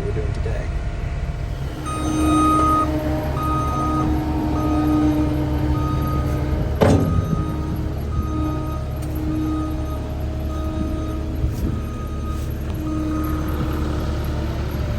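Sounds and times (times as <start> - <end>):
heavy equipment engine running: 0.0 - 14.9
backup alarm beeping: 1.5 - 14.9.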